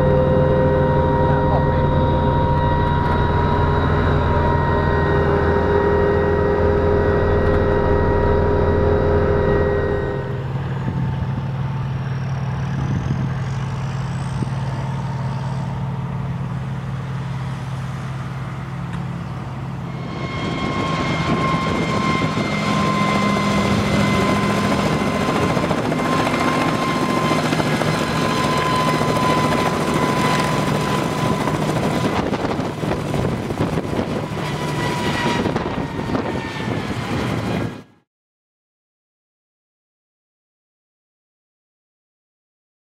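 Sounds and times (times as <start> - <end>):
helicopter engine drone: 0.0 - 38.0
high whine of cooling fans: 0.0 - 38.0
helicopter flying: 0.0 - 38.1.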